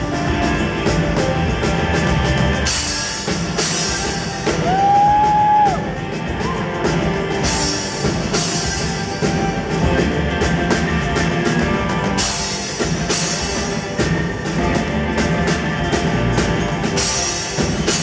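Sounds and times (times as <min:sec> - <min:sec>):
drum kit playing: 0:00.0 - 0:18.0.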